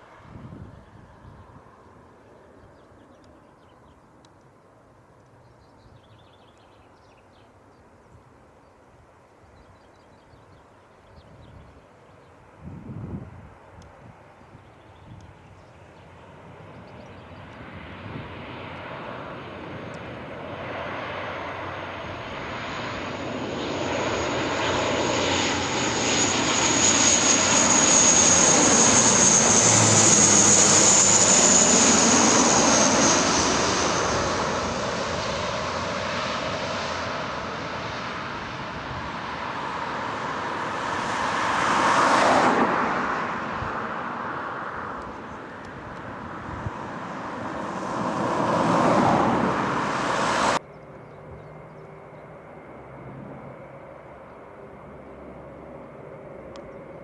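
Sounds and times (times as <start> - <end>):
military aircraft engine whine: 0.0 - 57.0.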